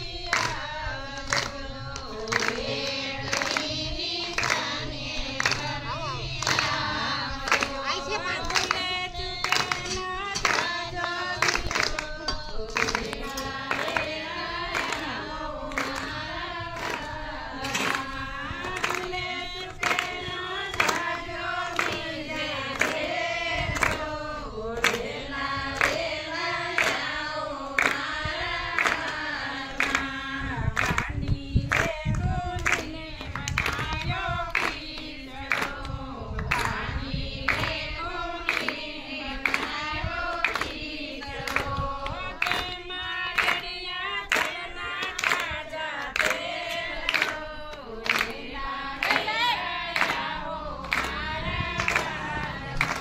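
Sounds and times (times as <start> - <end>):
group singing devotional song: 0.0 - 53.0
steady hand clapping: 0.1 - 53.0.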